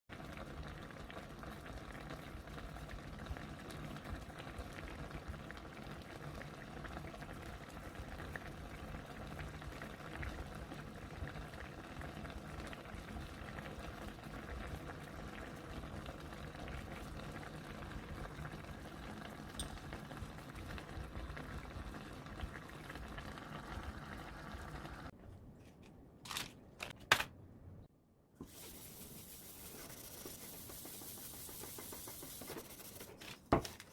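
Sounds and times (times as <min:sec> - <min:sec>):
pot of liquid boiling: 0:00.1 - 0:25.1, 0:28.4 - 0:33.1.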